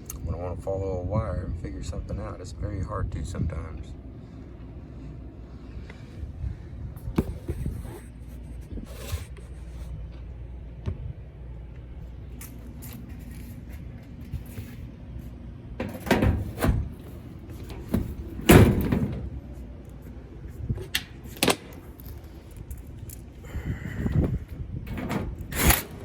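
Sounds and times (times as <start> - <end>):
low machinery rumble: 0.0 - 26.0.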